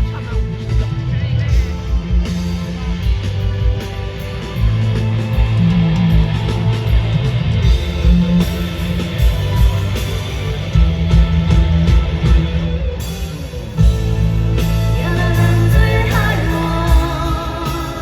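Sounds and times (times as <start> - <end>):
live dance pop music: 0.0 - 18.0.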